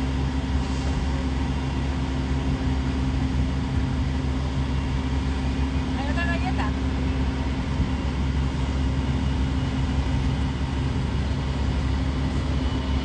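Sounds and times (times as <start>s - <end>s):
constant low hum: 0.0s - 13.0s
vehicle engine rumbling: 0.0s - 13.0s.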